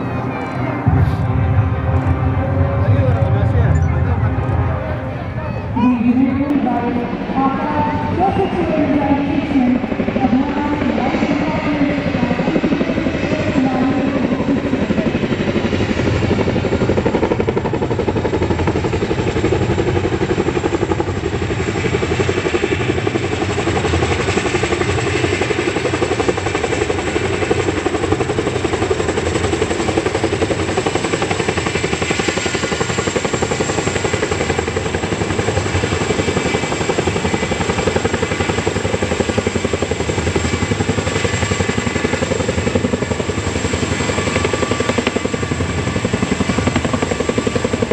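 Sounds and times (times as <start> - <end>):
helicopter rotors chopping: 0.0 - 47.9.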